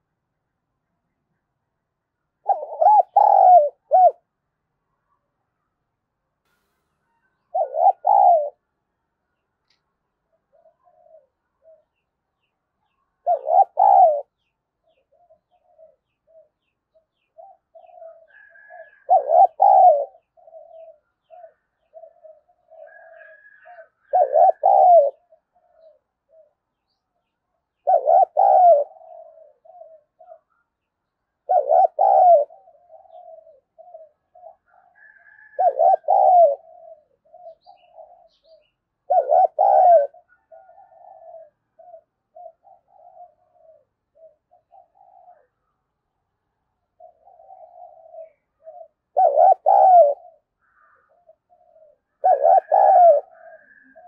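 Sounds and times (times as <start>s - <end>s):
dove cooing: 2.4s - 4.4s, 7.2s - 8.8s, 10.3s - 12.0s, 12.8s - 27.0s, 27.7s - 30.7s, 31.3s - 45.8s, 46.8s - 54.0s.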